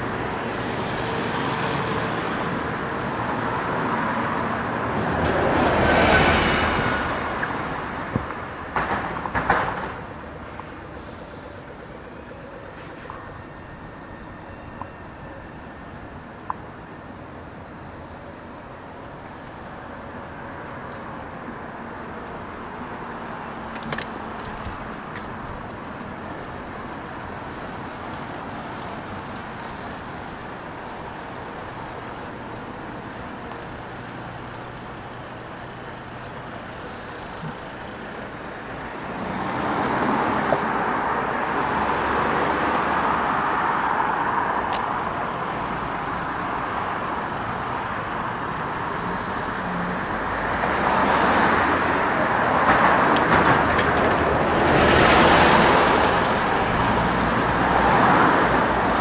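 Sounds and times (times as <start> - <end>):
road traffic: 0.0 - 59.0.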